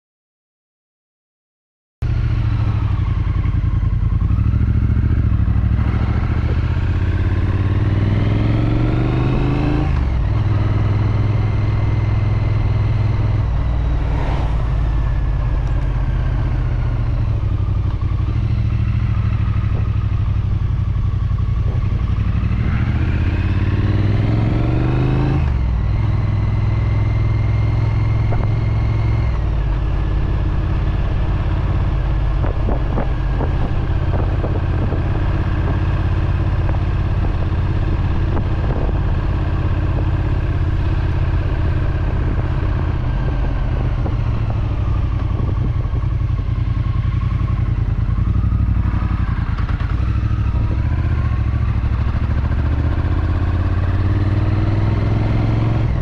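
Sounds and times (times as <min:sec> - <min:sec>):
motorcycle engine and exhaust: 0:02.0 - 0:56.0.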